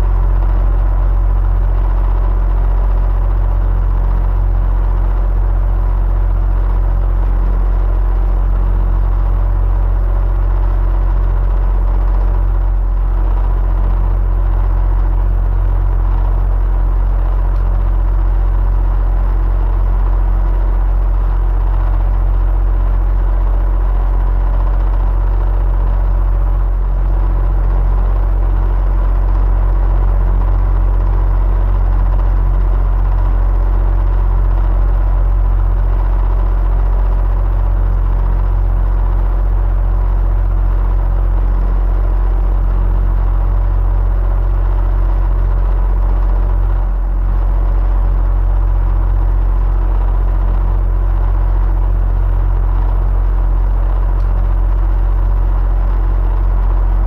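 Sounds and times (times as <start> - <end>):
electric fan whirring: 0.0 - 57.0.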